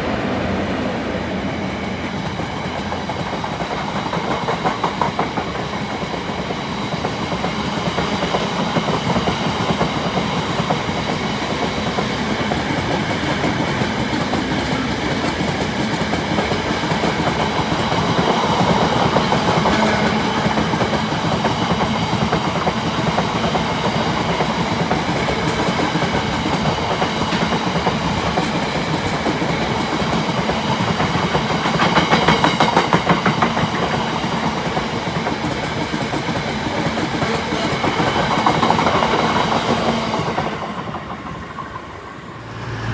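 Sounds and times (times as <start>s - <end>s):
train wheels clattering on rails: 1.6s - 42.2s.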